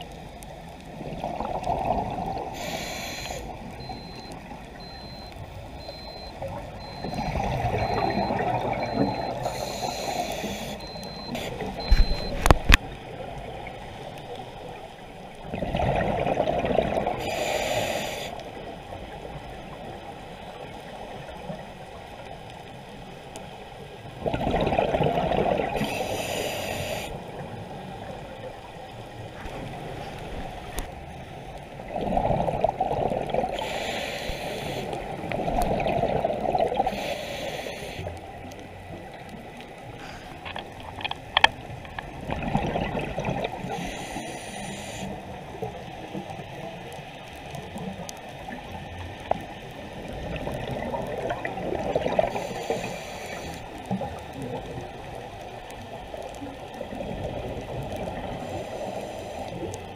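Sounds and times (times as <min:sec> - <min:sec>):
scuba regulator bubbling exhaust: 0:00.8 - 0:14.4, 0:15.3 - 0:18.9, 0:24.1 - 0:31.0, 0:31.7 - 0:39.1, 0:39.8 - 0:46.8, 0:47.5 - 0:59.9.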